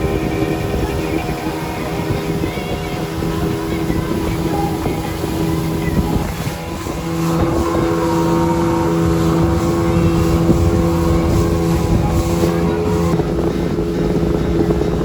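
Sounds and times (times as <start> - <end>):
outboard motor running: 0.0 - 15.0
water rushing: 0.0 - 15.0.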